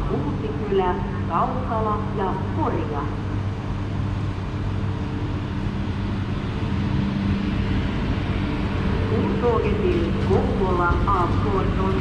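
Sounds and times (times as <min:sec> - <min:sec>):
standing train mechanical hum: 0:00.0 - 0:12.0.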